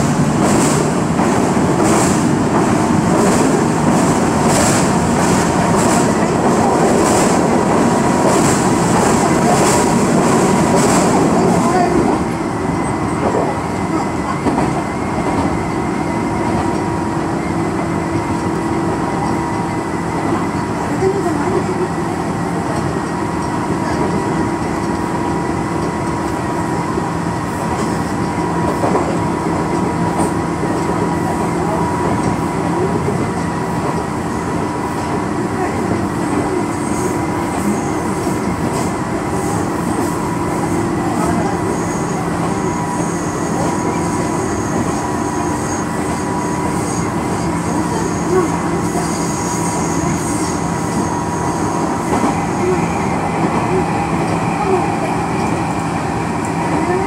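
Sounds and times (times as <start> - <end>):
electric train running on track: 0.0 - 57.0.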